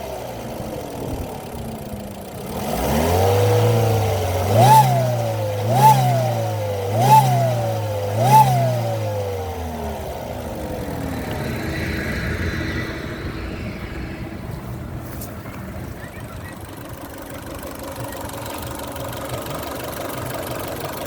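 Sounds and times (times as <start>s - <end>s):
car engine revving and idling: 0.0s - 21.0s.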